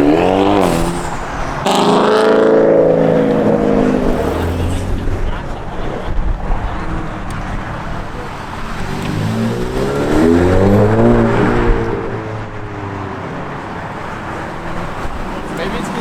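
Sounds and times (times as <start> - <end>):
car accelerating past: 0.0 - 16.0
cars idling: 0.0 - 16.0.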